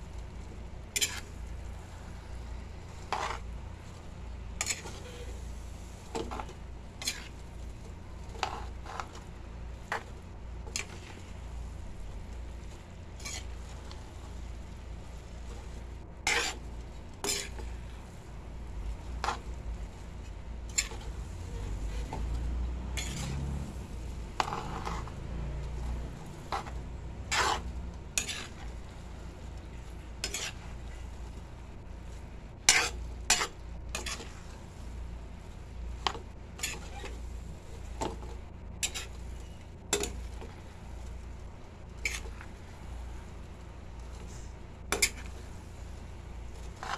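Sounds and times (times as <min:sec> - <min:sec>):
noodles sizzling: 0:00.0 - 0:46.9.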